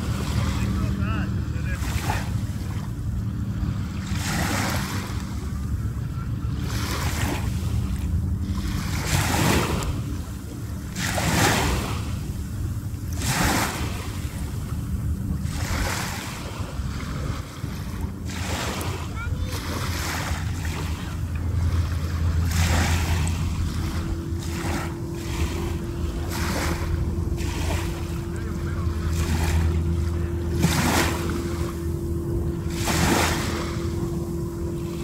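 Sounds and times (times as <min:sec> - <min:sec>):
small waves breaking on shore: 0:00.0 - 0:35.0
steady low rumble: 0:00.0 - 0:35.0.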